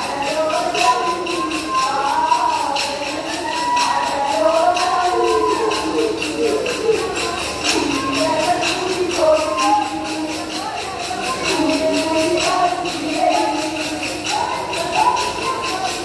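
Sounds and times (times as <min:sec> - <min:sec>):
people singing: 0:00.0 - 0:16.0
wooden sticks clacking: 0:00.0 - 0:16.0.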